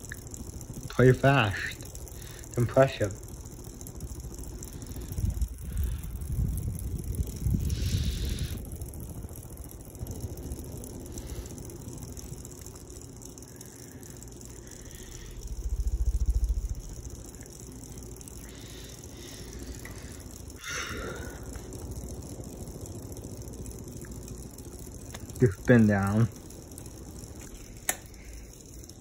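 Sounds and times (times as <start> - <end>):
ceiling fan air rush: 0.0 - 29.0.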